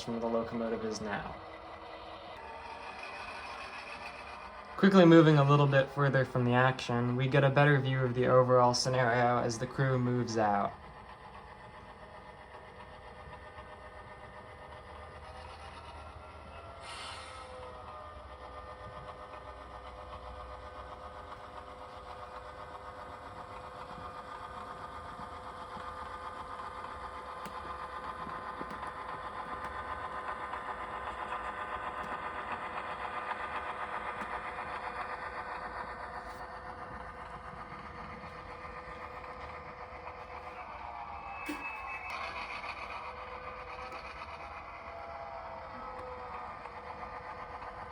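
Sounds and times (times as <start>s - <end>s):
model locomotive humming: 0.0s - 47.9s.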